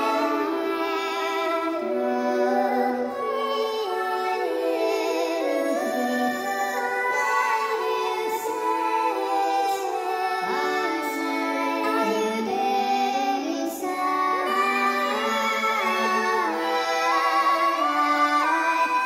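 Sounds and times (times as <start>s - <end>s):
slow music of long held notes: 0.0s - 19.0s.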